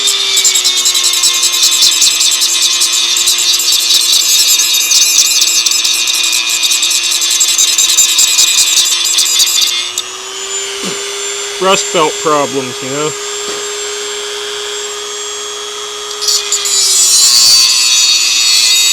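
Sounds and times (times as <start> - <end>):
disc grinding metal: 0.0 - 13.6, 16.0 - 18.9
rotary tool motor whine: 0.0 - 18.9.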